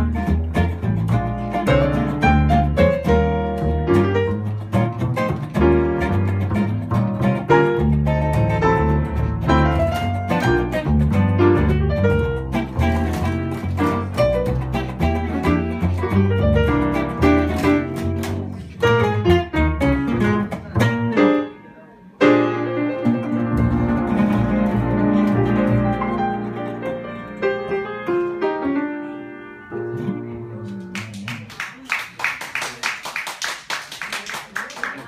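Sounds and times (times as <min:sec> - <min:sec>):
jazz combo playing: 0:00.0 - 0:31.3
piano notes: 0:00.0 - 0:31.4.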